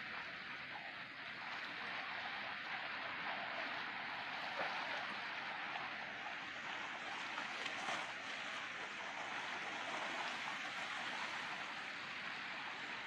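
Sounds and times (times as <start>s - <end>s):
water lapping and splashing: 0.0s - 13.0s.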